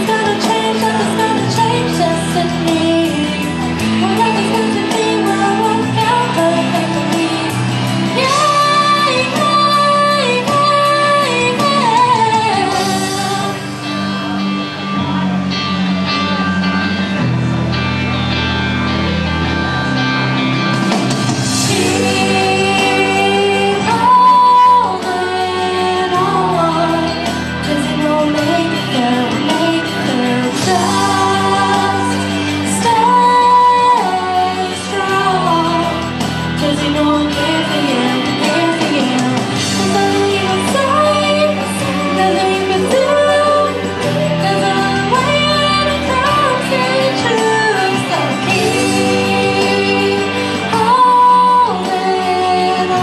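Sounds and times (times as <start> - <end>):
woman singing pop song: 0.0 - 16.4, 21.2 - 53.0
instrumental accompaniment: 0.0 - 53.0.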